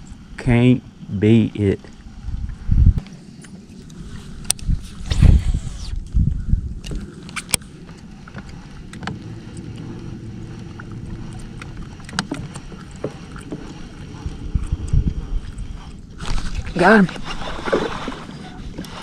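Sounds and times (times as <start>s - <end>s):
low wind rumble on microphone: 0.0s - 19.0s.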